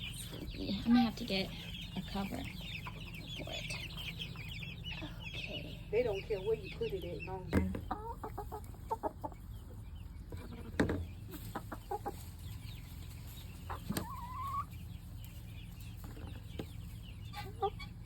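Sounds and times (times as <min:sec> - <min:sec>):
baby chicks peeping: 0:00.0 - 0:18.0
chickens clucking: 0:00.0 - 0:18.0.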